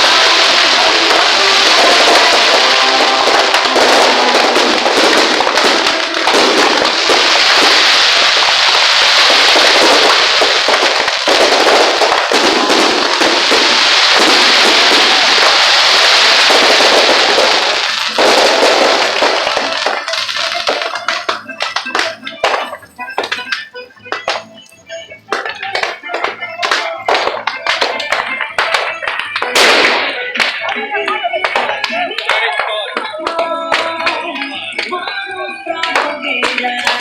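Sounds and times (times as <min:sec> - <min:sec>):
firecrackers crackling: 0:00.0 - 0:37.0
music: 0:00.0 - 0:37.0.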